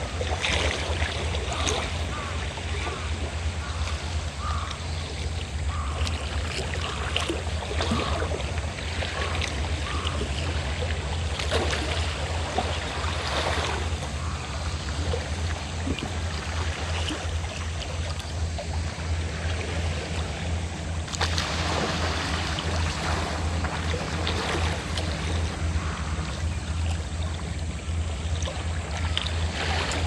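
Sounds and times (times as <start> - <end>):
boat engine throbbing: 0.0 - 30.0
waves lapping and splashing: 0.0 - 30.0.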